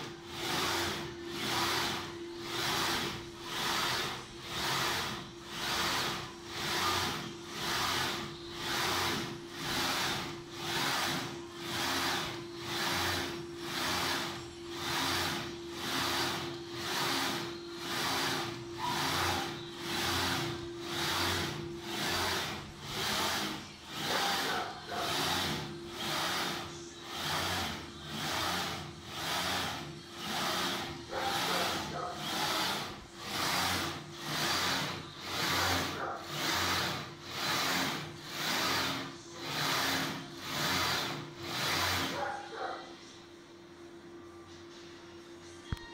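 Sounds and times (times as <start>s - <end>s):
gantry head whirring: 0.0s - 42.6s
steady machine hum: 0.0s - 45.8s.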